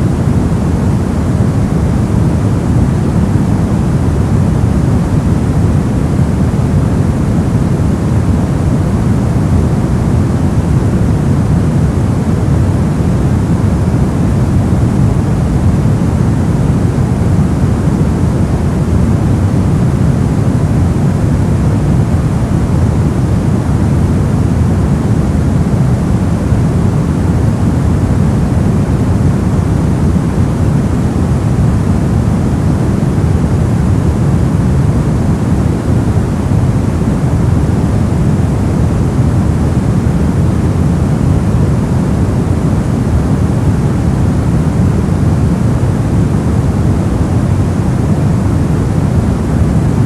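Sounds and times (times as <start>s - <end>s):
deep dull white noise hiss: 0.0s - 50.0s.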